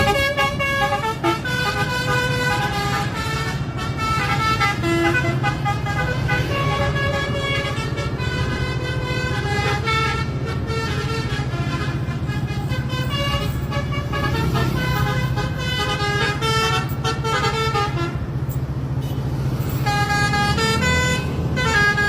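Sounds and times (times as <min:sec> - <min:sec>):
engine hum: 0:00.0 - 0:22.0
multi-tone bus horn melody: 0:00.0 - 0:22.0.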